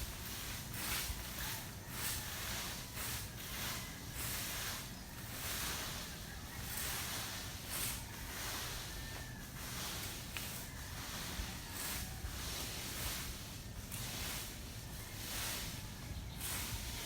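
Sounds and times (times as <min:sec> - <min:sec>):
rake scraping grass and soil: 0:00.0 - 0:17.0.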